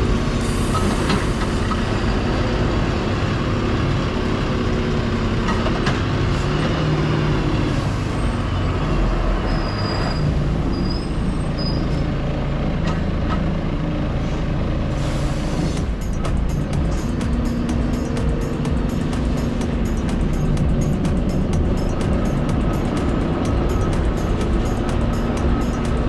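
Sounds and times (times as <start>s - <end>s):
diesel lorry engine running: 0.0s - 26.0s.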